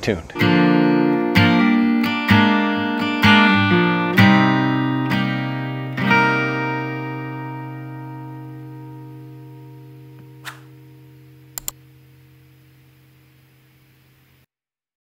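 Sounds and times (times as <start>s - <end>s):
strummed guitar chords: 0.4s - 13.7s.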